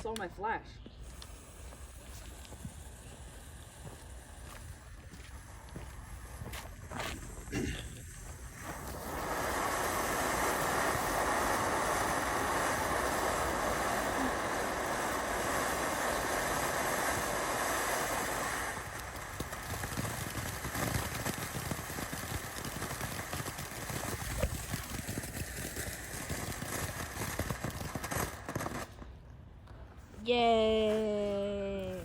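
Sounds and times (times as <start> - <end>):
firework crackling: 0.0 - 32.0
firework hissing: 0.8 - 29.3.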